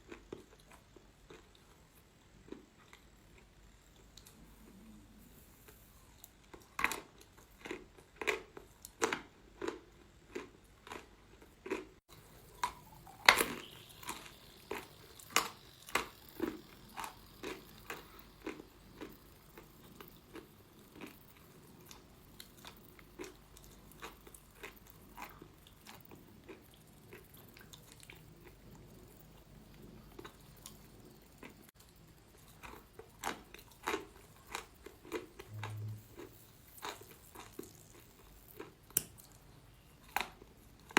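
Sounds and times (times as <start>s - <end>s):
person chewing crunchy chalk: 0.0s - 39.4s.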